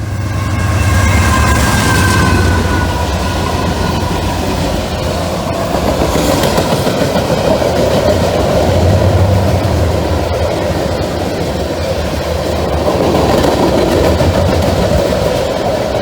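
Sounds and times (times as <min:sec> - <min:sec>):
freight train rumble: 0:00.0 - 0:16.0
train wheels clicking over track: 0:00.0 - 0:16.0.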